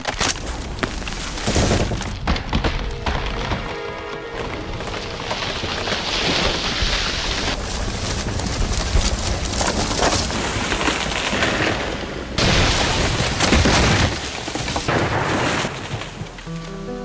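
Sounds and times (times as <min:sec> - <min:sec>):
heavy crash of falling tree: 0:00.0 - 0:16.6
tree cracking and splintering: 0:00.0 - 0:16.7.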